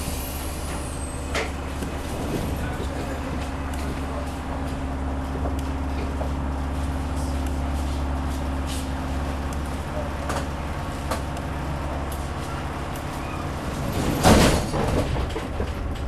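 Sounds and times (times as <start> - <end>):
large vehicle engine idling: 0.0 - 16.0.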